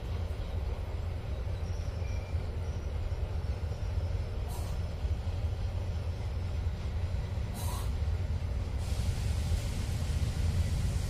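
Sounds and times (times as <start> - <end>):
distant diesel train rumble: 0.0 - 11.0.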